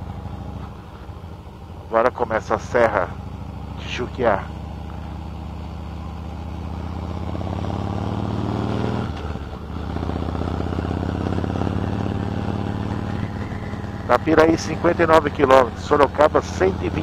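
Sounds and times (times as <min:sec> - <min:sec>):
motorcycle engine pulling under throttle: 0:00.0 - 0:17.0.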